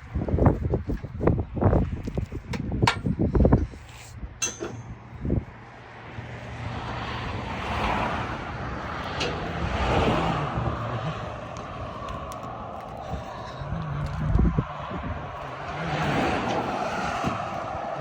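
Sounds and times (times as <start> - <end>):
low buffeting: 0.0 - 18.0
vehicle running: 0.0 - 18.0.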